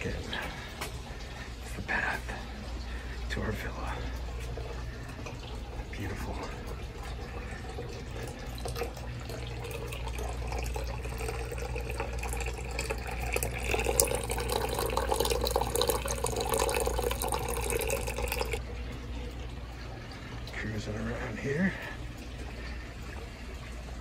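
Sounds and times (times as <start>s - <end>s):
fountain water trickling and splashing: 0.0s - 24.0s.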